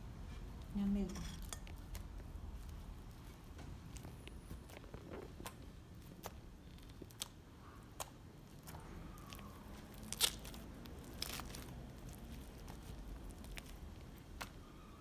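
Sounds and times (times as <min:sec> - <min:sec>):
slime crackling and popping: 0:01.8 - 0:14.7.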